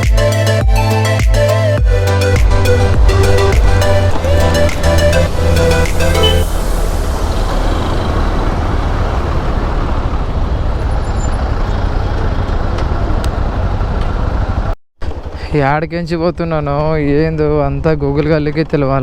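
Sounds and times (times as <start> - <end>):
motorcycle road and wind noise: 2.2 - 19.0.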